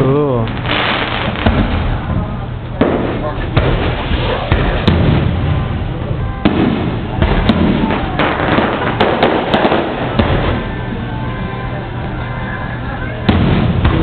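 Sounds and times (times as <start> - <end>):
fireworks bursting with echo: 0.4 - 11.2, 13.2 - 14.0.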